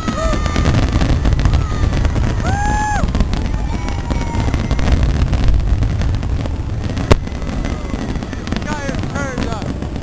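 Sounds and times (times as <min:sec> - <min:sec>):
fireworks booming and crackling: 0:00.0 - 0:10.0
high firework whistle: 0:00.0 - 0:10.0.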